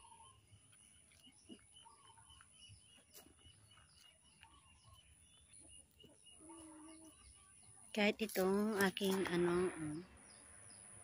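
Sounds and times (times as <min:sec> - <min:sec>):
bird chirping: 0:00.0 - 0:11.0
other faint bird calls: 0:00.0 - 0:11.0.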